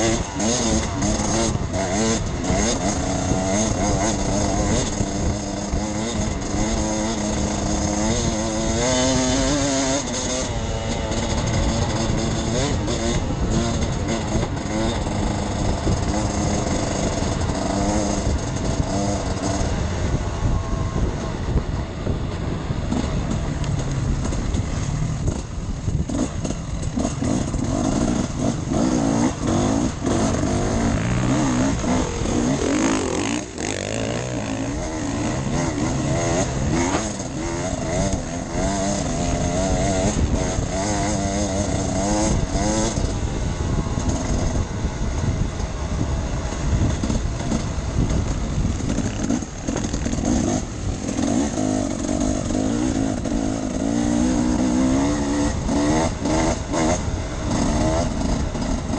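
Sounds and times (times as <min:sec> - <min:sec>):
motorcycle engine revving: 0:00.0 - 0:58.9
steady rushing noise: 0:00.0 - 0:58.9.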